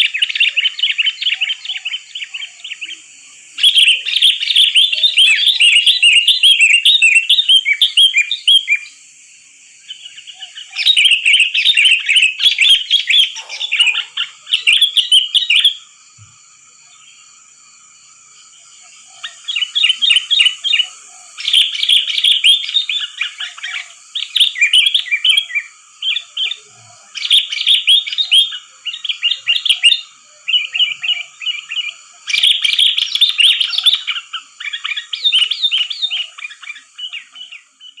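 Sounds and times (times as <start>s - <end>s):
bulbuls singing and chattering: 0.0s - 38.0s
faint high hiss: 0.0s - 38.0s.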